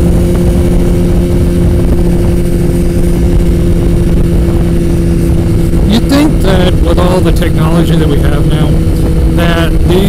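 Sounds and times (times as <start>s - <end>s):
motorcycle engine cruising: 0.0s - 10.0s
wind rumble on microphone: 0.0s - 10.0s.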